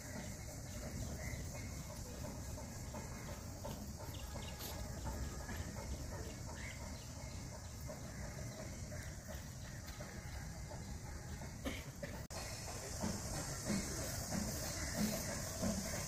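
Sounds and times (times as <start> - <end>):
faint bird calls: 0.0 - 16.0.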